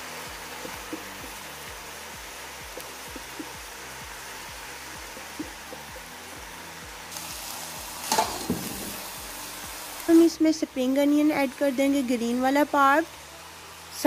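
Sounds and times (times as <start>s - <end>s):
vegetables sizzling in frying pan: 0.0s - 14.0s.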